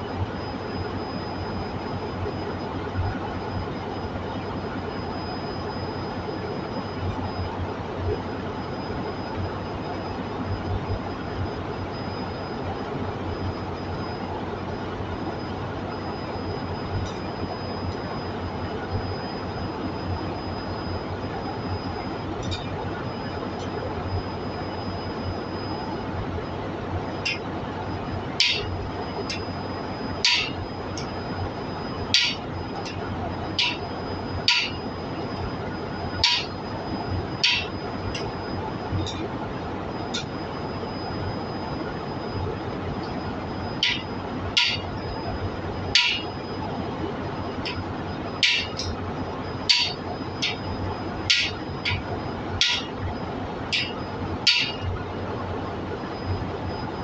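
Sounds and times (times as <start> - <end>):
machine hum with high whine: 0.0 - 57.0.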